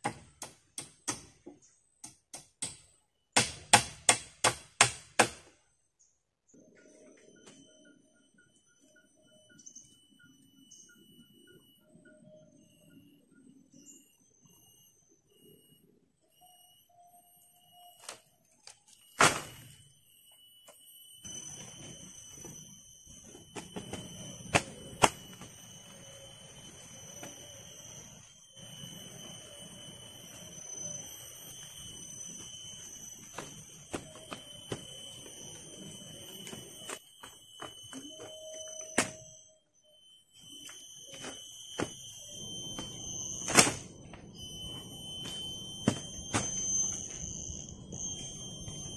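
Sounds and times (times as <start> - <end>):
high-pitched insect drone: 6.0 - 48.9.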